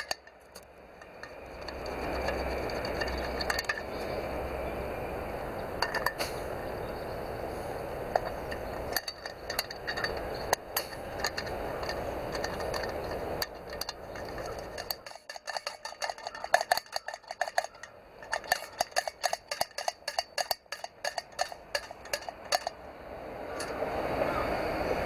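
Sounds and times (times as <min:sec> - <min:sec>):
light metallic clinks and taps: 0:00.0 - 0:05.0, 0:05.8 - 0:06.4, 0:08.1 - 0:22.8
steady rushing noise: 0:00.0 - 0:25.0.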